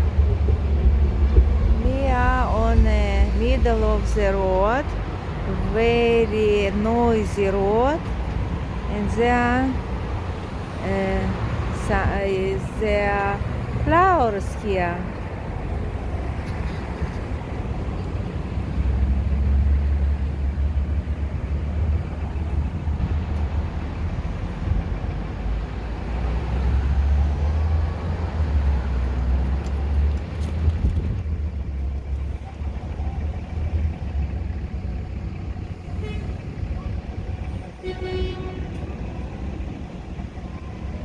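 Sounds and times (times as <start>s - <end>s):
road traffic rumble: 0.0s - 41.0s.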